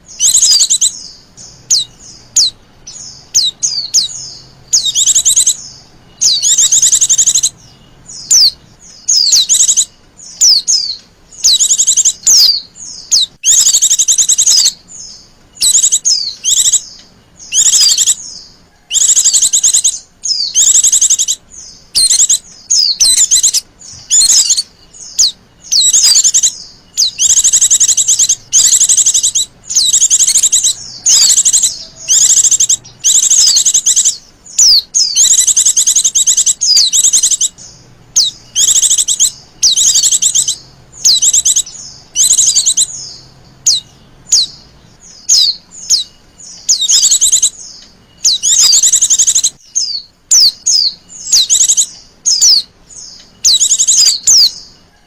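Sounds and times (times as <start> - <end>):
bird high warbled calls: 0.0 - 55.0.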